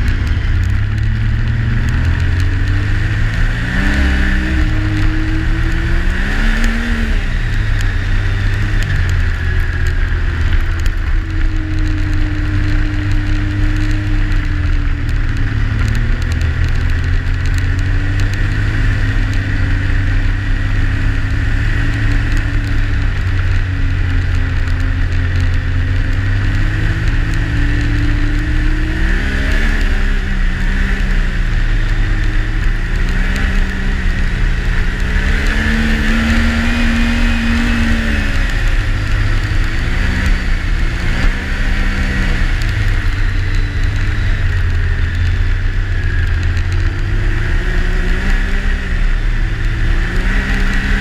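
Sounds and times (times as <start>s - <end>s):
high whine: 0.0s - 51.0s
snowmobile engine running: 0.0s - 51.0s.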